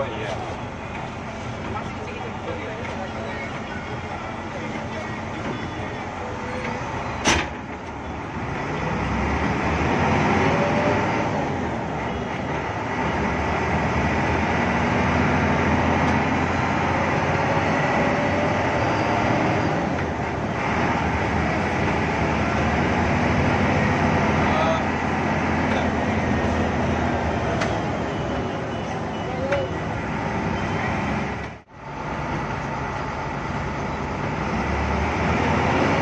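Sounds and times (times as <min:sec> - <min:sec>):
bus engine accelerating: 0:00.0 - 0:36.0.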